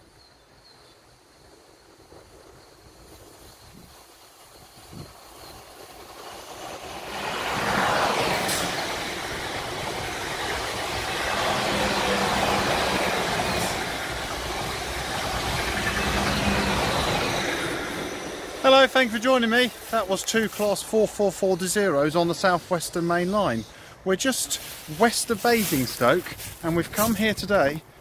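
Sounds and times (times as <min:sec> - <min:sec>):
electric train passing at speed: 0:01.1 - 0:28.0.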